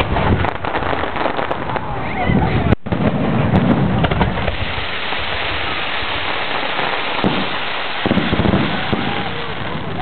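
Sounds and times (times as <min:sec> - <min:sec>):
fireworks crackling: 0:00.0 - 0:10.0
fireworks pops: 0:00.0 - 0:10.0.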